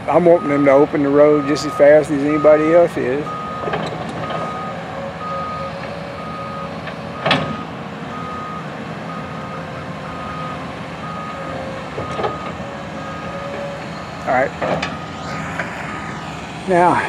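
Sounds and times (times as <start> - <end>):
diesel engine rumble: 0.0 - 17.0
truck backup alarm beeping: 0.0 - 17.0.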